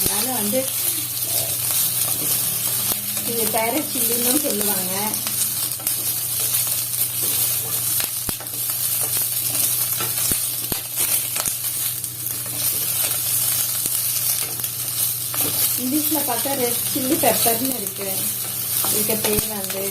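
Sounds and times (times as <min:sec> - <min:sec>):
peppers sizzling in oil: 0:00.0 - 0:19.9.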